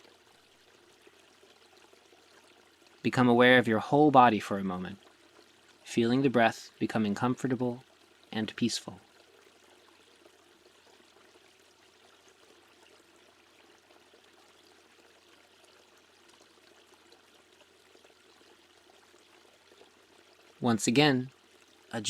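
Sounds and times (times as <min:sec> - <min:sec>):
flowing water: 0:00.0 - 0:22.0.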